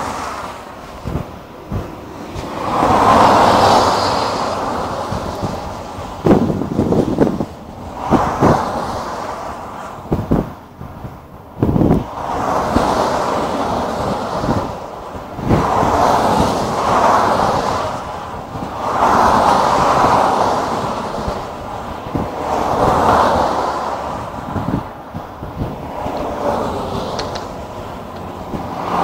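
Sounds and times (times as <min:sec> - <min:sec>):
cars passing on motorway: 0:00.0 - 0:29.0
wind buffeting microphone: 0:00.0 - 0:29.0.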